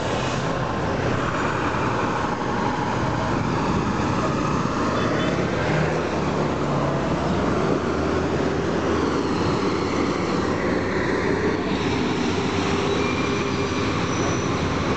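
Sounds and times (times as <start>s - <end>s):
bus diesel engine under load: 0.0s - 14.9s
street traffic noise: 0.0s - 14.9s.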